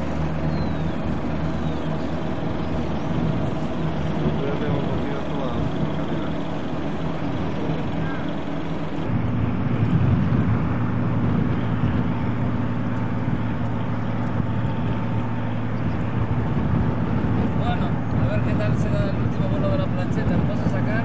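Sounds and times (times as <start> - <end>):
engine hum: 0.0 - 21.0.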